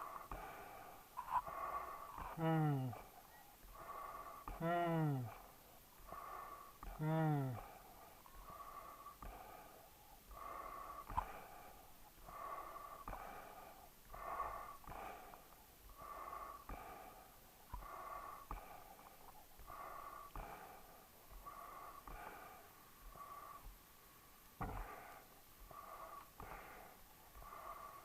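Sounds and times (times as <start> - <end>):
dog breathing noisily: 0.0 - 4.6, 5.2 - 28.0.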